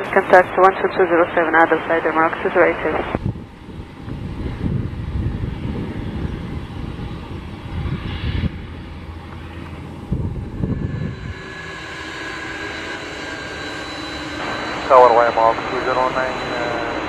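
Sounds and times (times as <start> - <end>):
jet engine rumble: 0.0 - 17.0
jet engine whine with whistle: 0.0 - 17.0.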